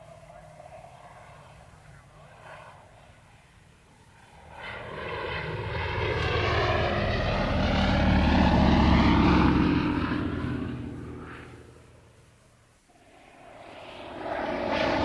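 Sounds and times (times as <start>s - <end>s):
propeller plane engine flying past: 0.0s - 15.0s.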